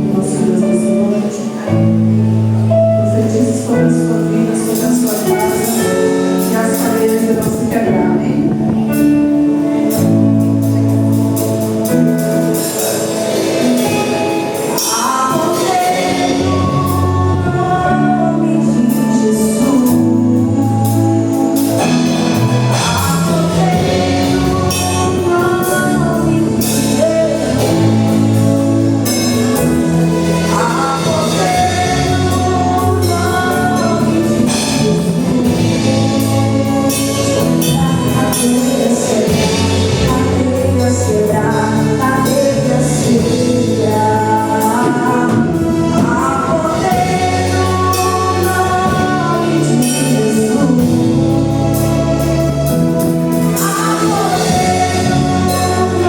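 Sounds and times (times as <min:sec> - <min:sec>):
bass line: 0:00.0 - 0:56.0
gospel singing over a band: 0:00.0 - 0:56.0
percussion: 0:00.0 - 0:56.0.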